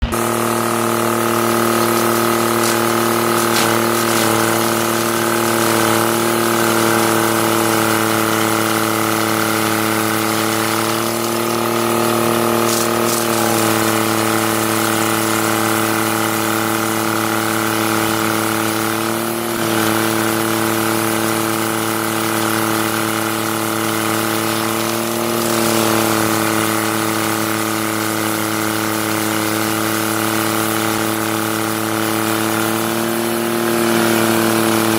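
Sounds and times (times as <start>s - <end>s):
heavy machine engine droning: 0.0s - 30.8s.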